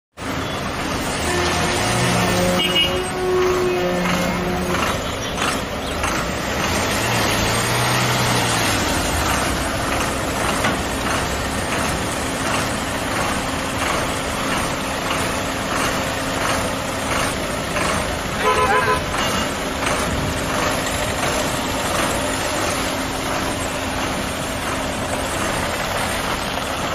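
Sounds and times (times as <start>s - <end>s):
bus diesel engine: 0.1s - 26.9s
traffic noise: 0.2s - 26.9s.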